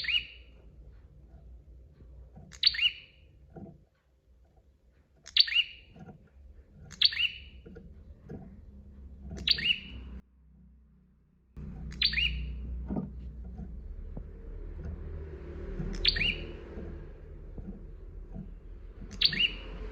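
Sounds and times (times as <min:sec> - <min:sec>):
bird chirping: 0:00.0 - 0:01.6, 0:02.2 - 0:03.8, 0:05.1 - 0:10.2, 0:11.6 - 0:19.9.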